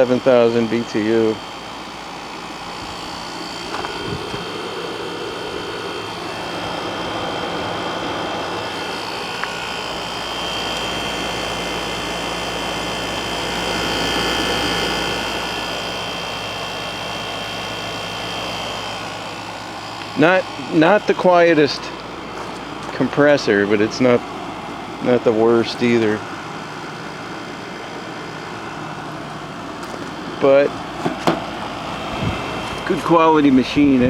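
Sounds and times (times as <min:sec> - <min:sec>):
air conditioner fan blowing: 0:00.0 - 0:34.0
compressor humming: 0:00.0 - 0:34.0.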